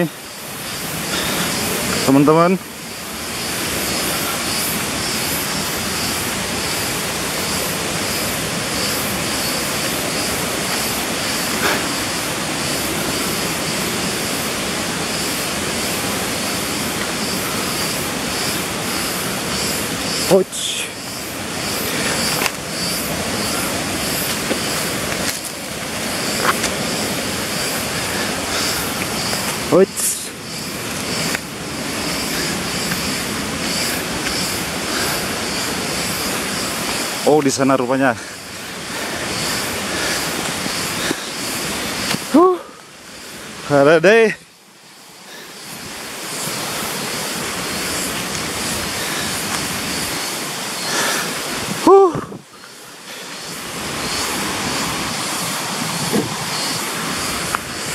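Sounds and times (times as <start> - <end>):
fast-flowing water rushing: 0.0 - 57.9.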